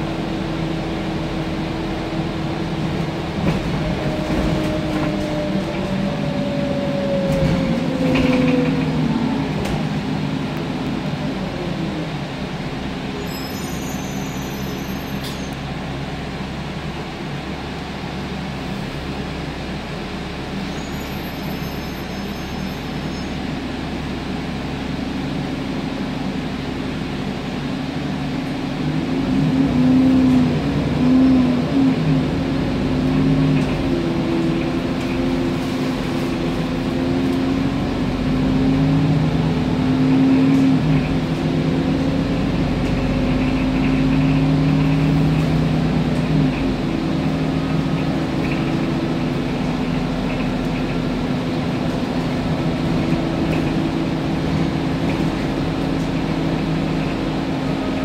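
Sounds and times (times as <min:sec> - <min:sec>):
bus engine and drivetrain whine: 0:00.0 - 0:58.0.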